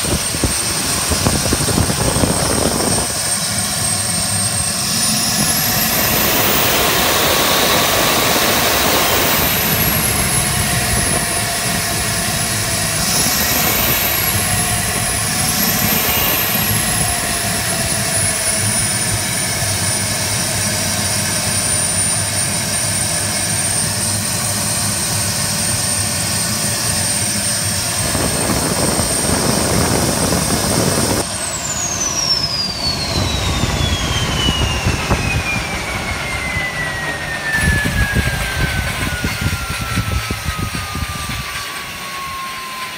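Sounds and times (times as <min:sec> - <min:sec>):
turboprop engine turbine whine: 0:00.0 - 0:42.9.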